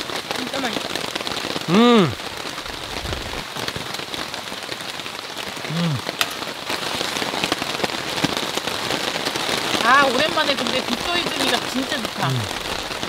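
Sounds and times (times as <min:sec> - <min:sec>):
heavy rain on a tarp: 0:00.0 - 0:13.0.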